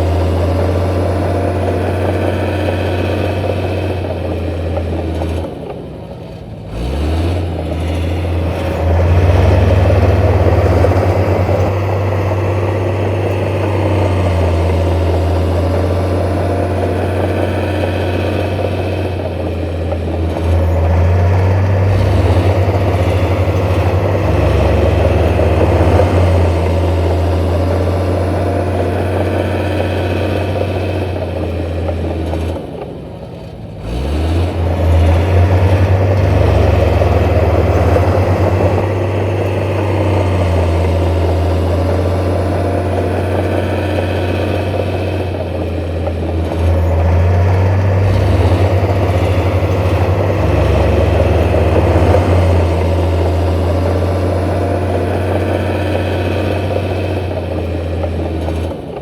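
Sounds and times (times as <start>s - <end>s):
heavy diesel engine under load: 0.0s - 59.0s.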